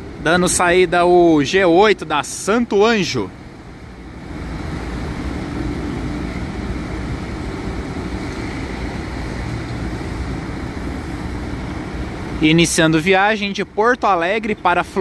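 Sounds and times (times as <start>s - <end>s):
diesel coach engine rumbling: 0.0s - 15.0s.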